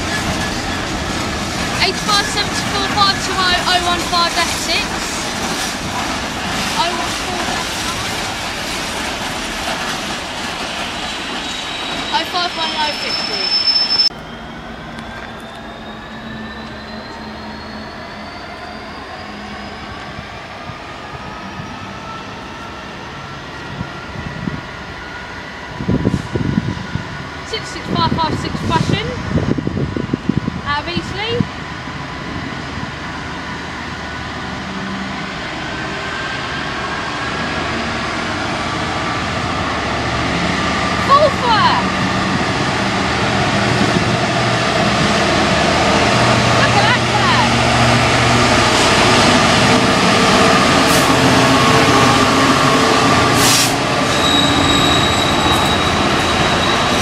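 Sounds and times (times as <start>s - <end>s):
distant diesel locomotive engine: 0.0s - 57.0s.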